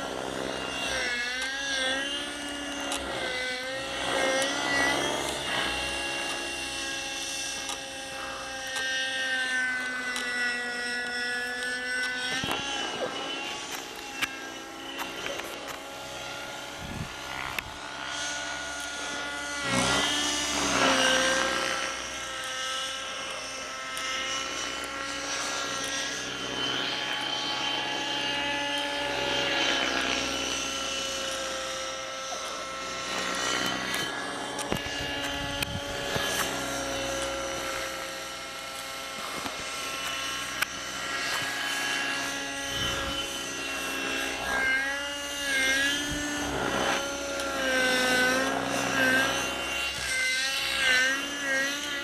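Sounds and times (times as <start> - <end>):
model aircraft motor whine: 0.0 - 52.0.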